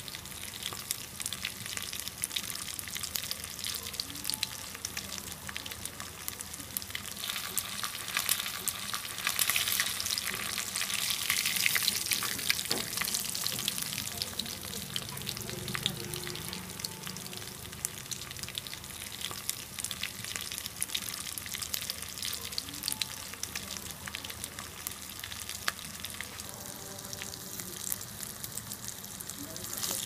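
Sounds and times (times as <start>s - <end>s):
fish frying in hot oil: 0.0s - 30.0s
oil popping and crackling: 0.0s - 30.0s.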